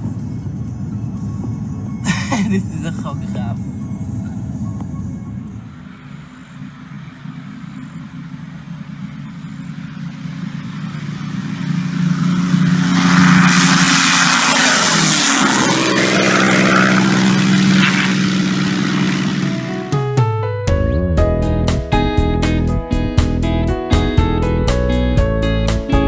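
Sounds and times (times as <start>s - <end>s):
airplane taking off: 0.0s - 22.2s.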